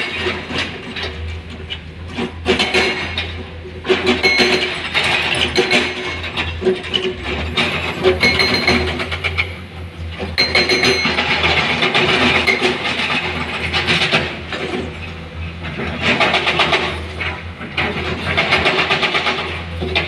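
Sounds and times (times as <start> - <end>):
heavy diesel engine rattling: 0.0 - 20.0.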